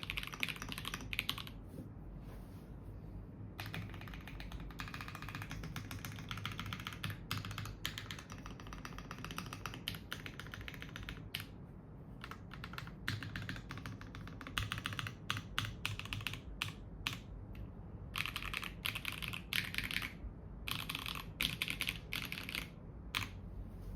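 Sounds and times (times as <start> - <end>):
mechanical keyboard typing: 0.0 - 1.6, 3.6 - 11.6, 12.2 - 17.3, 18.1 - 23.4.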